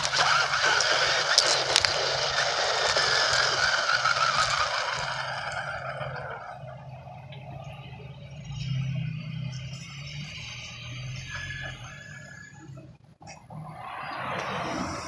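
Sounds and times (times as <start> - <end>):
toy car motor whining: 0.0 - 12.8.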